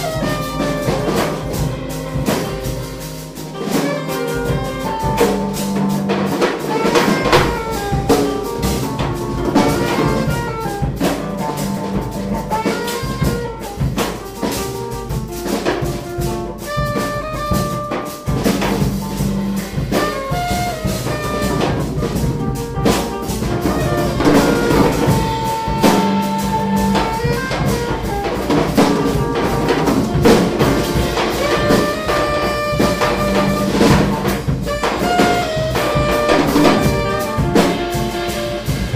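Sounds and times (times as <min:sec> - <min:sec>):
drum kit drumming: 0:00.0 - 0:38.9
saxophone: 0:00.0 - 0:38.9.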